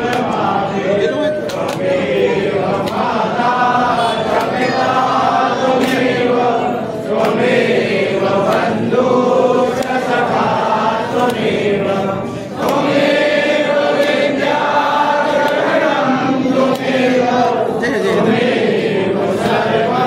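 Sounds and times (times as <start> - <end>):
crowd singing a hymn: 0.0 - 20.0.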